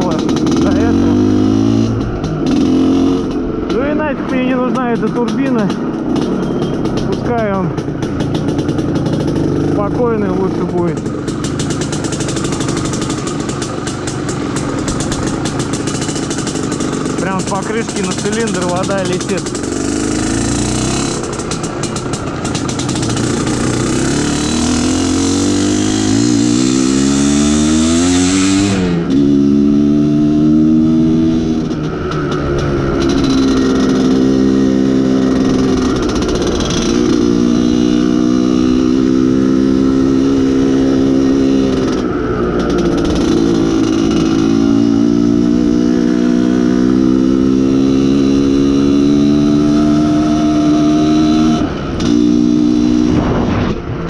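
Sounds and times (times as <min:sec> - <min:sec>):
two-stroke motorcycle engine: 0:00.0 - 0:54.0.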